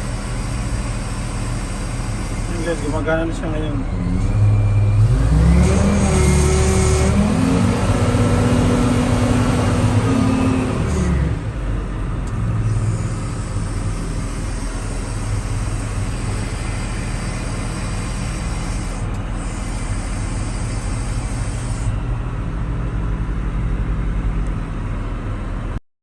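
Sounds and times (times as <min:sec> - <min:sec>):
car engine idling: 0:00.0 - 0:03.9, 0:06.0 - 0:24.8.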